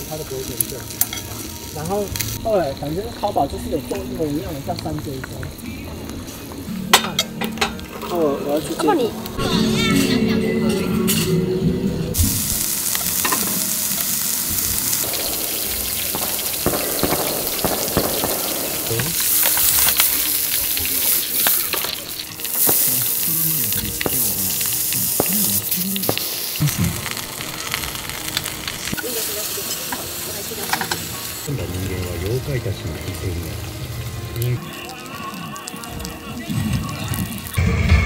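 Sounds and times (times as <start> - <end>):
sausage sizzling in a pan: 0.0 - 9.5, 12.1 - 37.6.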